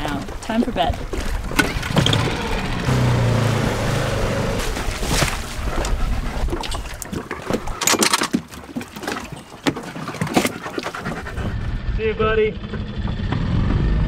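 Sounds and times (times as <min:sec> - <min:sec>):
water noise: 0:00.0 - 0:12.1.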